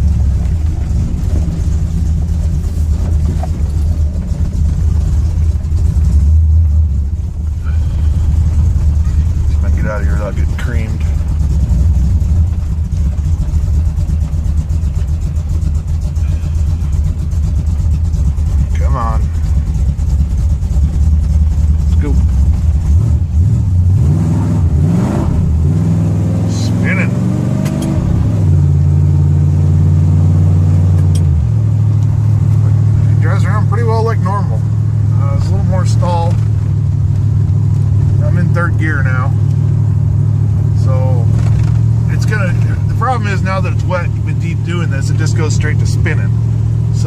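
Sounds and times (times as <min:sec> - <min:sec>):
truck engine idling: 0:00.0 - 0:24.1, 0:30.9 - 0:47.0.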